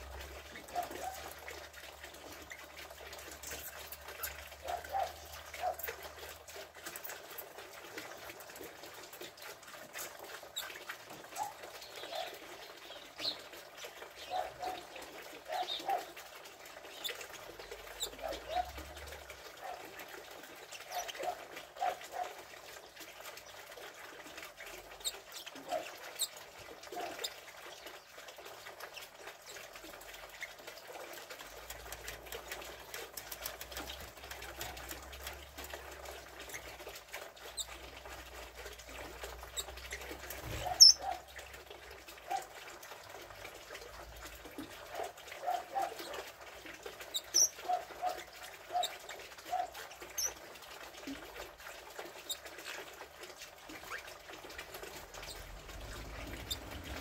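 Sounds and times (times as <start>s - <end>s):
parrots chirping and twittering: 0.0s - 7.4s, 9.2s - 23.8s, 24.6s - 41.6s, 44.0s - 46.4s, 47.0s - 52.9s, 53.7s - 57.0s.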